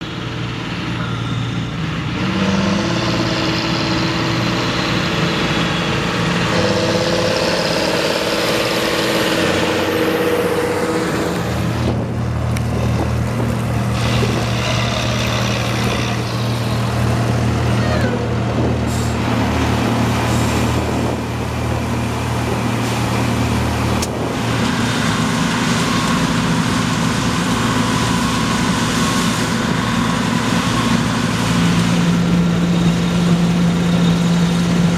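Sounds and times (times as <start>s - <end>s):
combine harvester engines and threshing: 0.0s - 34.9s.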